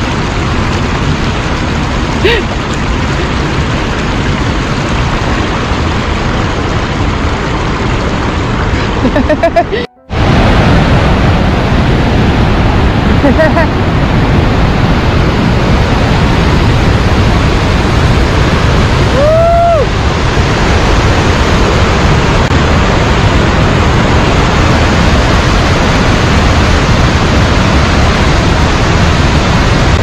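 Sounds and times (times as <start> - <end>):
waterfall and river rapids rushing: 0.0 - 30.0.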